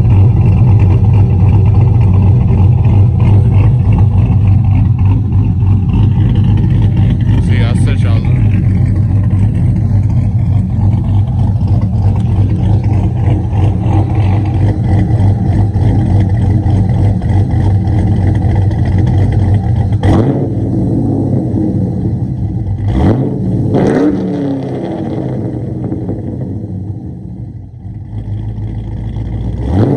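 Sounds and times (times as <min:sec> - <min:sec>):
pickup truck engine idling and revving: 0:00.0 - 0:29.9.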